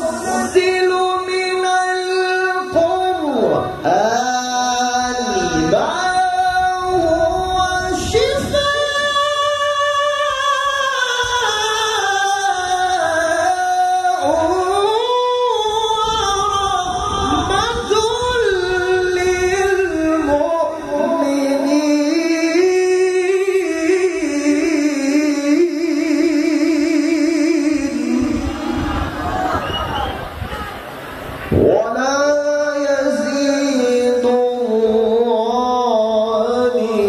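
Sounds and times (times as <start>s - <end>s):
man reciting melodically into microphone: 0.0s - 28.9s, 31.5s - 37.0s.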